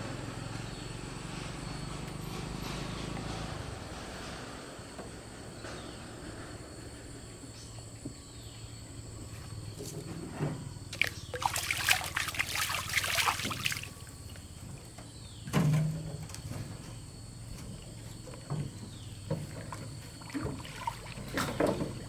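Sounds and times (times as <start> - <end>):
water splashing and sloshing: 3.1 - 22.0.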